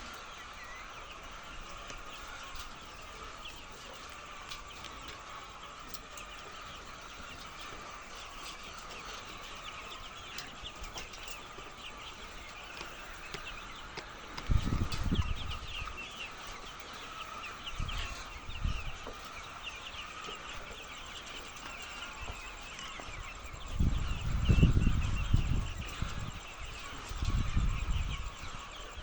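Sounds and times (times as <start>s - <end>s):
hens clucking: 0.0s - 29.0s.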